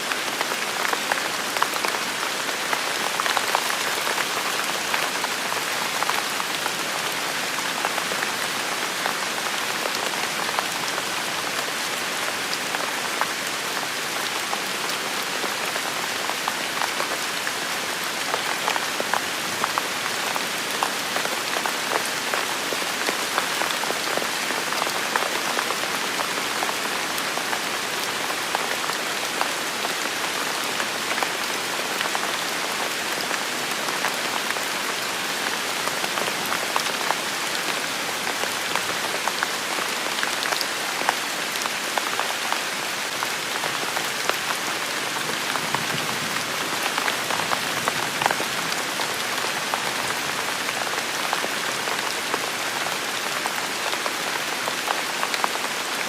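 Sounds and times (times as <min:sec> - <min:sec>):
steady rain hiss: 0:00.0 - 0:56.0
raindrops ticking and splatting: 0:00.1 - 0:56.0.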